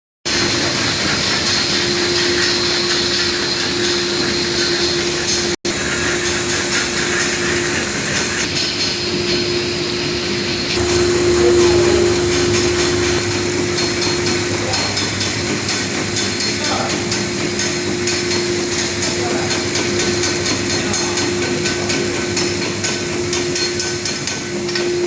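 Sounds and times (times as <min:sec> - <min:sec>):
packing machine whirring: 0:00.3 - 0:25.0.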